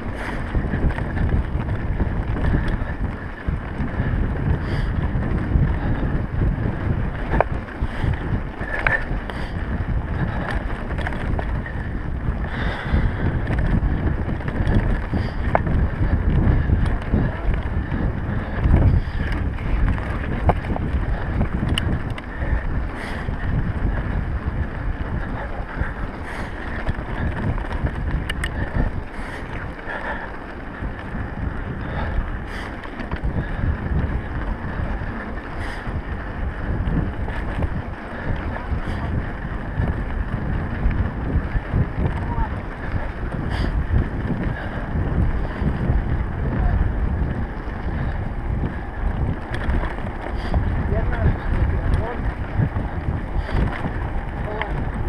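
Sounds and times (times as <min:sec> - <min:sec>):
bike clicks and rattles: 0:00.0 - 0:55.0
tyres rolling on dirt: 0:00.0 - 0:55.0
wind buffeting microphone: 0:00.0 - 0:55.0.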